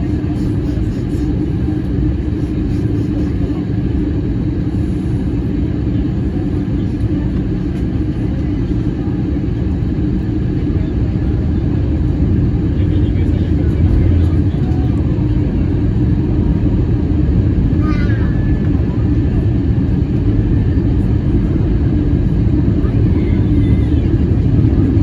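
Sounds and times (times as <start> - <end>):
airliner engine rumble: 0.0 - 25.0.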